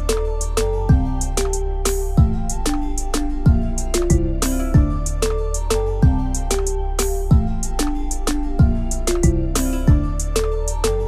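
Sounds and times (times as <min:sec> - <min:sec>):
plucked-string melody over a beat: 0:00.0 - 0:11.0.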